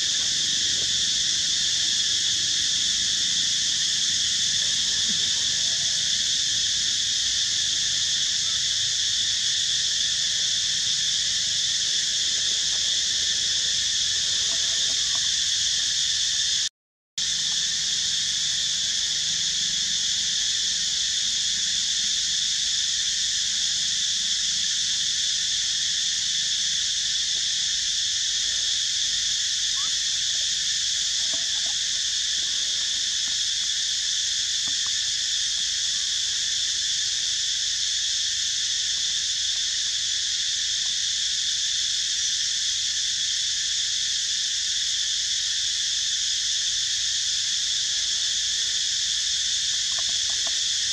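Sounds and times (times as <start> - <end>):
insects chorus: 0.0 - 50.9.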